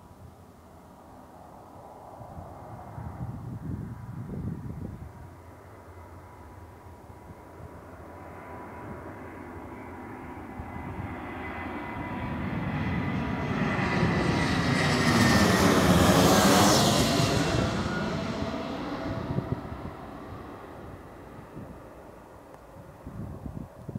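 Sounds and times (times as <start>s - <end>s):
jet airliner passing overhead: 0.2s - 23.9s.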